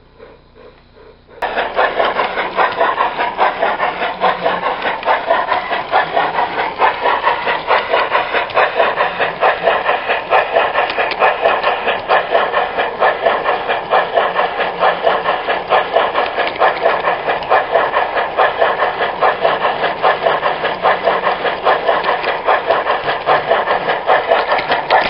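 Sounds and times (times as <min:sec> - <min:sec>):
fast even clicking: 0:01.4 - 0:25.0
model train wheels rolling on track: 0:01.4 - 0:25.0.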